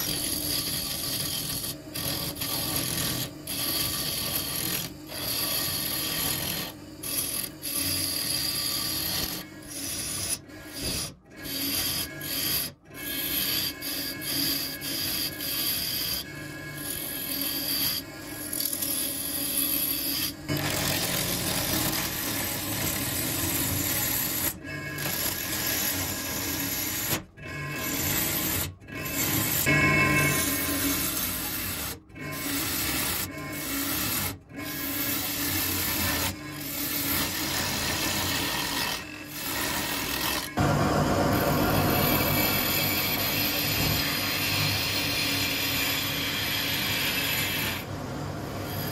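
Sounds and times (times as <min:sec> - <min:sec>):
lathe gouge shearing wood: 0:00.0 - 0:18.0, 0:18.6 - 0:48.9.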